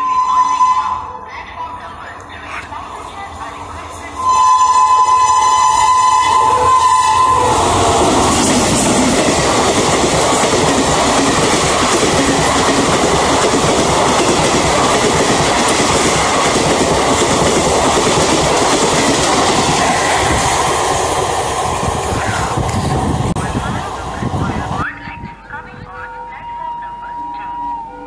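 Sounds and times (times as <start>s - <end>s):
express train passing: 0.0s - 28.0s.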